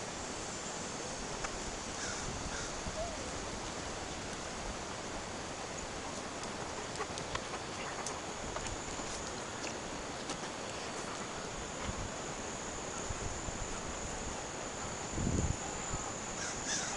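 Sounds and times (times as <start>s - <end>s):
high-pitched insect drone: 0.0s - 16.9s
rustling hiss: 0.0s - 16.9s.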